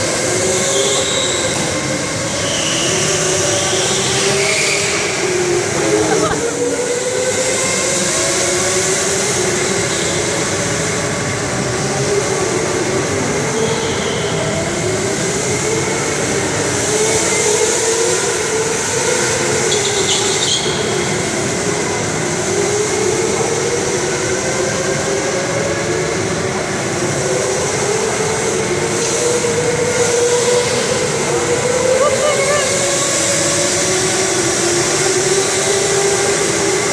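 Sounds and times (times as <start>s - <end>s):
electric go-kart motor whine: 0.0s - 36.9s.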